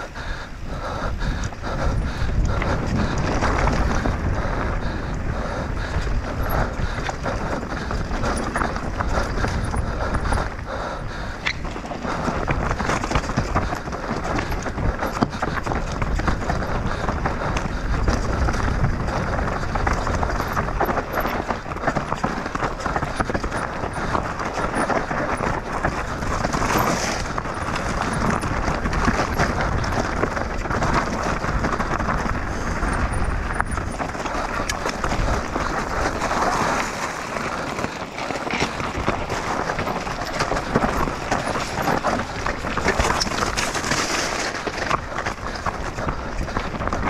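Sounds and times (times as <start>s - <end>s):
bike rattling over rough ground: 0.0s - 47.0s
bike tyres on trail: 0.0s - 47.0s.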